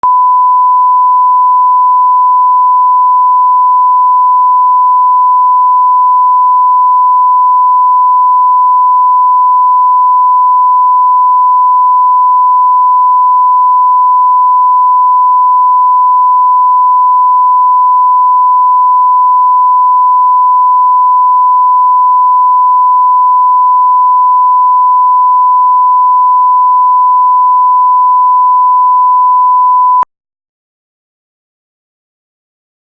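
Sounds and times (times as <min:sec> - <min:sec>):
steady test tone beep: 0:00.0 - 0:30.1.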